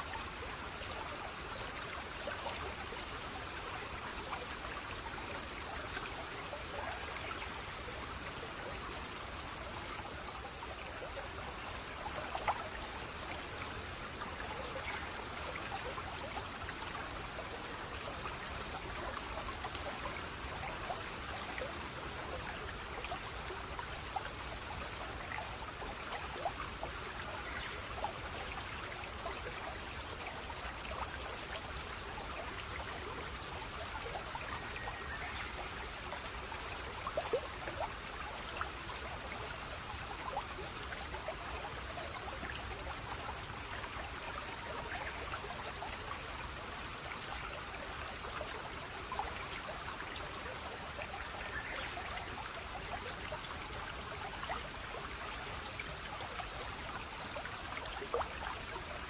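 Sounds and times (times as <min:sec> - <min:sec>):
stream trickling: 0:00.0 - 0:59.0
water drips and splashes: 0:00.0 - 0:59.0.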